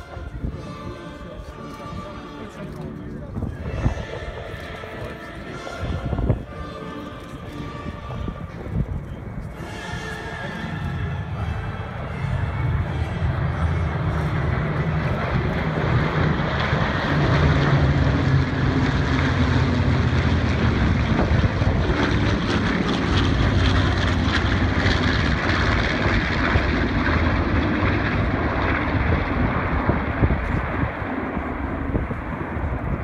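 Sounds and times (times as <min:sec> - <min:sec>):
propeller aircraft droning: 0:00.0 - 0:33.0.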